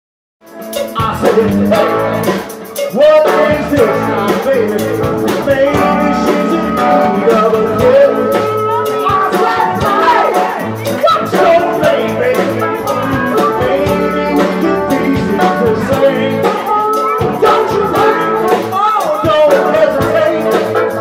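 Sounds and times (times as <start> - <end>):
live rock band playing: 0.4 - 21.0.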